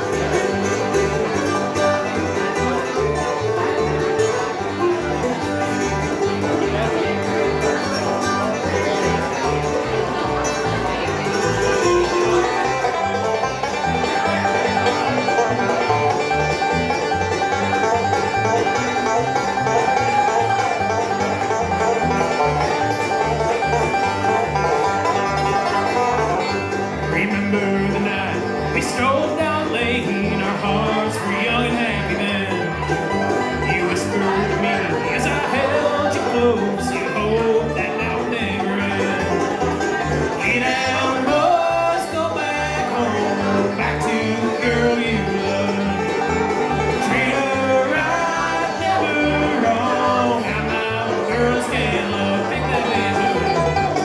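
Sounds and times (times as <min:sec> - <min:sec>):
acoustic guitar picking: 0:00.0 - 0:54.0
banjo: 0:00.0 - 0:54.0
mandolin: 0:00.0 - 0:54.0
upright bass plucking: 0:00.0 - 0:54.0.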